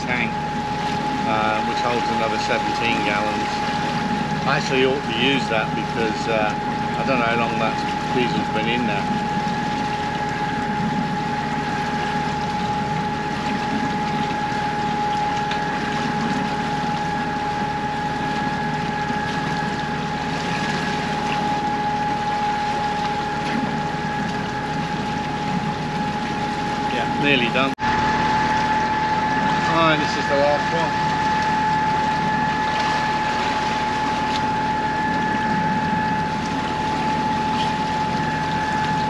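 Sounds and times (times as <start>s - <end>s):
boat diesel engine droning: 0.0s - 39.0s
steady high whine: 0.0s - 39.0s.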